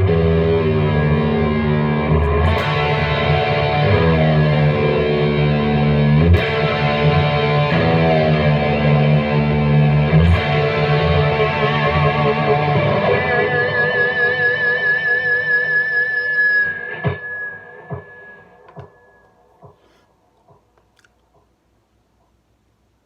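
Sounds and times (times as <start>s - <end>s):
distorted electric guitar notes: 0.0s - 19.3s
guitar feedback: 0.0s - 19.5s.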